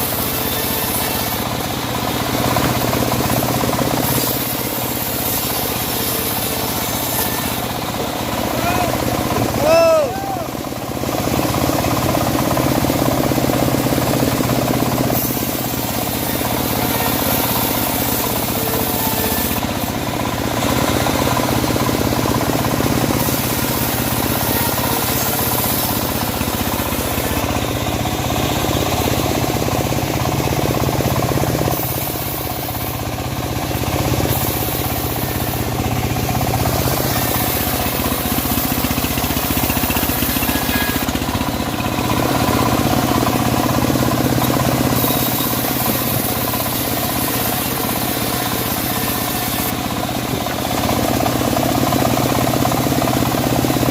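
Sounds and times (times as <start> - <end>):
bandsaw sawmill sawing logs: 0.0 - 53.9.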